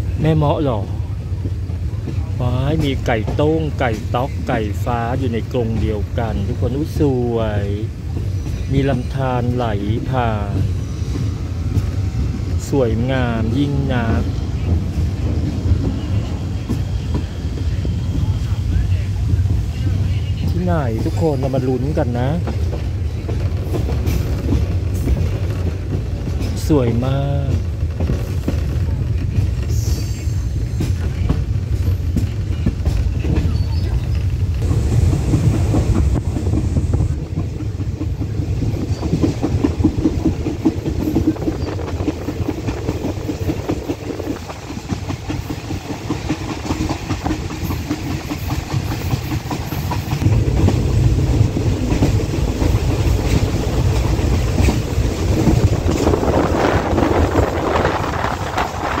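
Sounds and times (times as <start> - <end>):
train wheels rumbling on rail: 0.0 - 59.0
rattling and clickety-clack: 1.4 - 19.8, 20.4 - 59.0.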